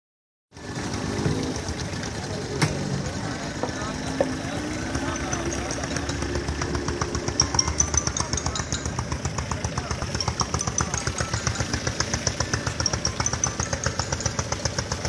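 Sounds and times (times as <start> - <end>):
outboard motors chugging: 0.5 - 15.0.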